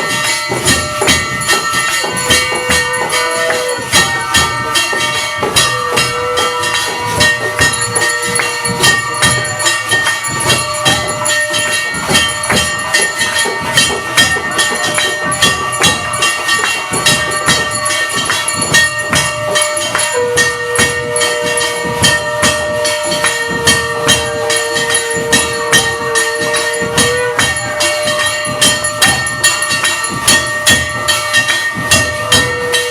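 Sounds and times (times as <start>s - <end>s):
bells and cymbals clanging: 0.0s - 32.9s
held ringing tones: 0.0s - 32.9s.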